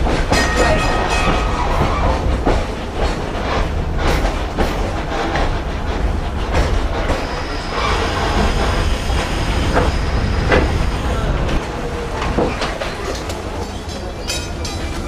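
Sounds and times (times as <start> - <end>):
railway car low rumble: 0.0 - 15.0
wheels clacking over rail joints: 0.0 - 15.0.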